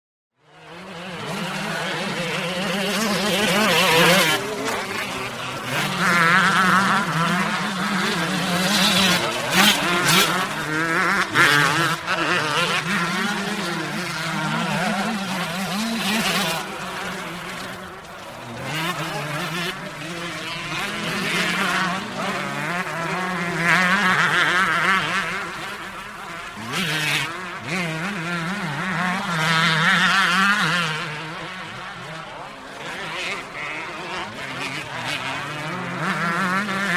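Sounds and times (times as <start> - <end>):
dirt bike engine revving: 0.4 - 36.9.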